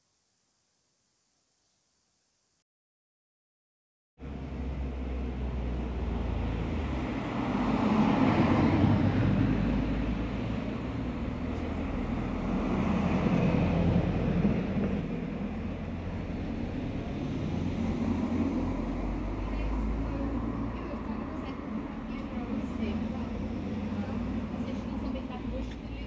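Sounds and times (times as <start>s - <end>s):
steady low traffic rumble: 4.2s - 26.0s
vehicles passing close by: 4.2s - 26.0s.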